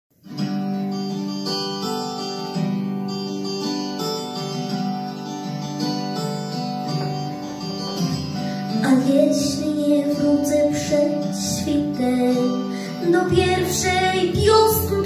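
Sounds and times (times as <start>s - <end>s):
guitar-like chords: 0.2s - 15.0s.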